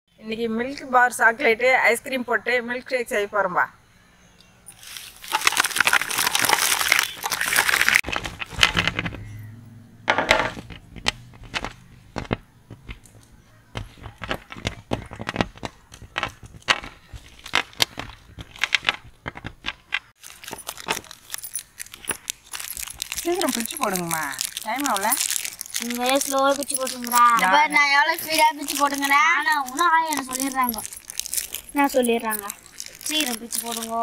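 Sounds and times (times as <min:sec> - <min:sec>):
plastic wrappers crinkling: 0:04.7 - 0:09.3, 0:10.5 - 0:34.0
packets dropping and tapping: 0:04.8 - 0:09.3, 0:10.1 - 0:34.0.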